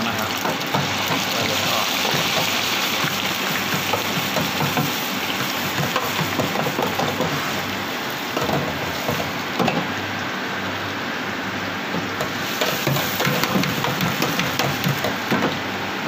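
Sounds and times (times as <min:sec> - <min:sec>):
hot oil bubbling and crackling: 0:00.0 - 0:16.0.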